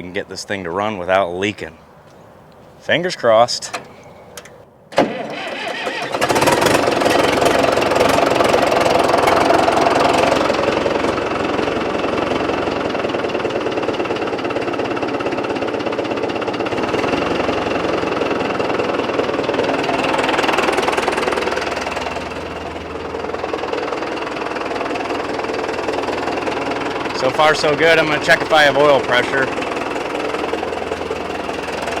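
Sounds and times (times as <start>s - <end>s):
tractor diesel engine running: 3.6s - 32.0s.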